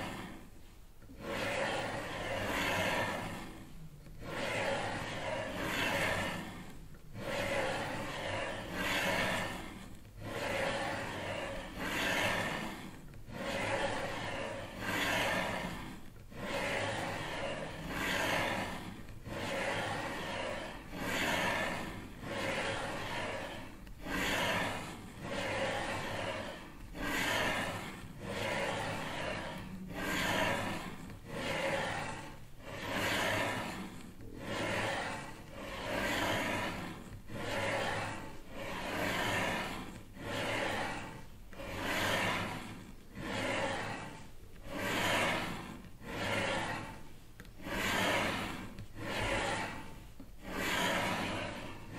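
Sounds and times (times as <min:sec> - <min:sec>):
rhythmic breath-like hissing: 0:00.0 - 0:51.9.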